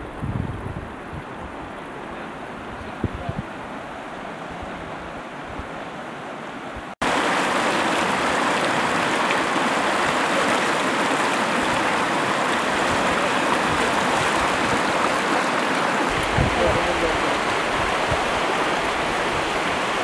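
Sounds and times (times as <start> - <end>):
river rushing over stones: 3.5 - 20.0.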